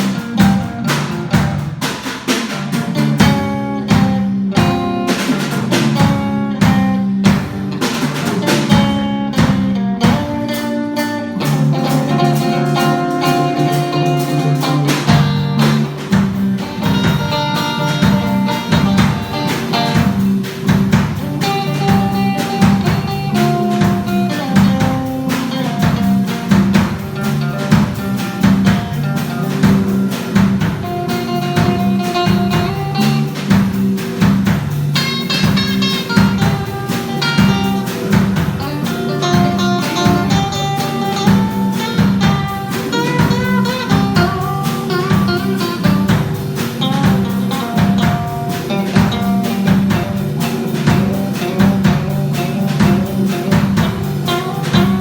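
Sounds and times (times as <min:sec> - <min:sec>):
blues band playing: 0:00.0 - 0:55.0
drum kit beat: 0:00.0 - 0:55.0
guitar lead lines: 0:00.0 - 0:55.0.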